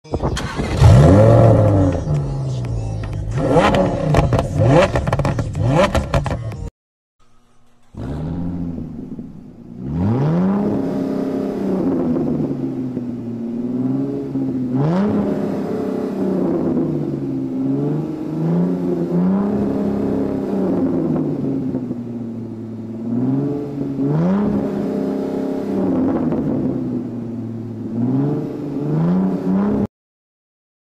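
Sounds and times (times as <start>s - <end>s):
car engine revving: 0.3s - 29.9s.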